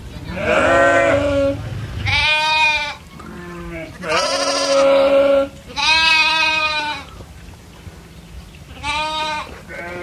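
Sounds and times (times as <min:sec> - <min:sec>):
goat bleating: 0:00.3 - 0:07.1, 0:08.7 - 0:10.0.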